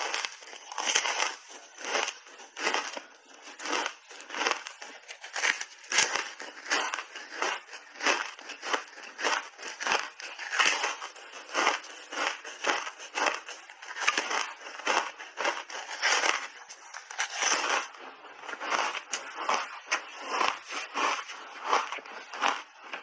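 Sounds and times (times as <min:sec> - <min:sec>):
ice bar crunching: 0:00.0 - 0:23.0.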